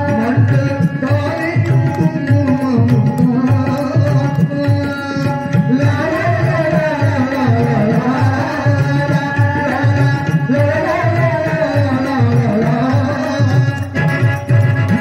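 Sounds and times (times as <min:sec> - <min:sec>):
tabla playing: 0:00.0 - 0:15.0.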